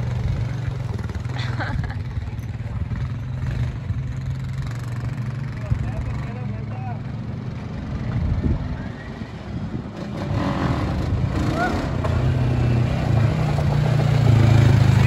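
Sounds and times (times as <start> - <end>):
atv engine humming: 0.0 - 15.0.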